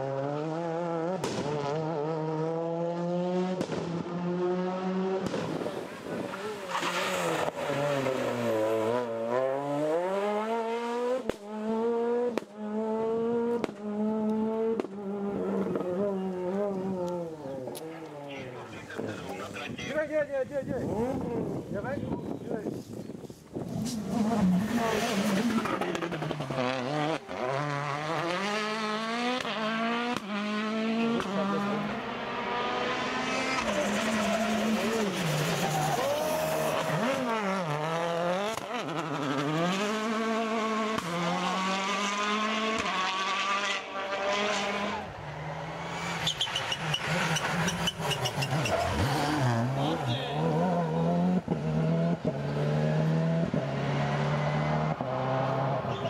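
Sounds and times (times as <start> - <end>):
rally cars passing at full throttle: 0.0 - 56.0.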